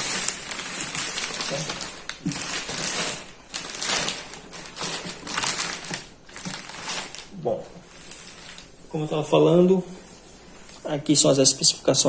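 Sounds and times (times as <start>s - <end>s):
plastic wrapping crinkling: 0.0s - 10.9s.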